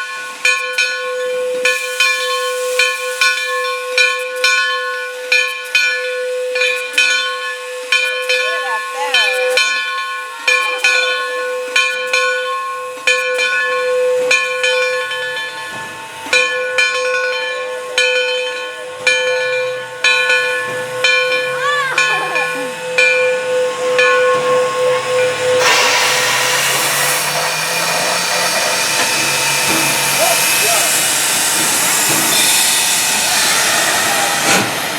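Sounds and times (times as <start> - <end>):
locomotive bell ringing: 0.0 - 34.9
steam hissing: 0.0 - 34.9.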